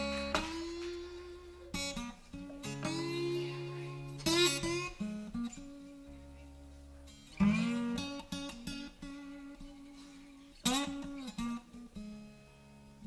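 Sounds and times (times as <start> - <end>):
guitar plucked notes: 0.0 - 13.0
strummed guitar chords: 0.0 - 13.0.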